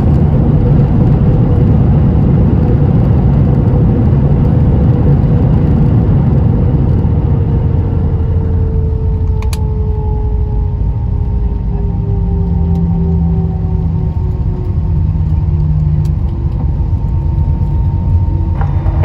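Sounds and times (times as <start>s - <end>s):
aircraft cabin rumble: 0.0s - 19.0s
jet engine whine: 0.0s - 19.0s.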